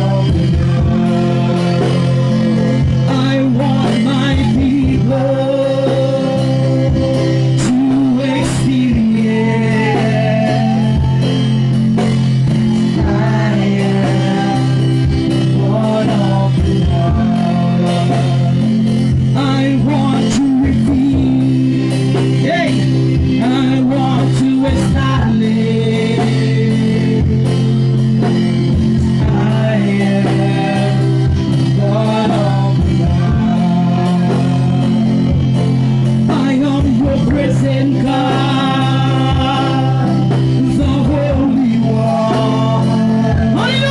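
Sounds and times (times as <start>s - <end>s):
band accompaniment: 0.0s - 43.9s
guitar: 0.0s - 43.9s
people singing: 0.0s - 43.9s.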